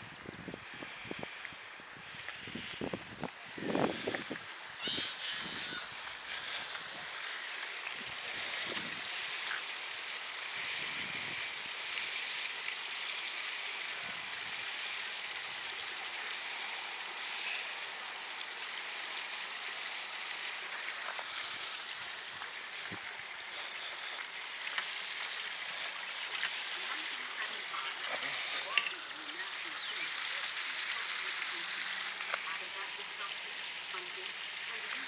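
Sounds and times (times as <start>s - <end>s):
river water rushing: 3.3s - 35.0s.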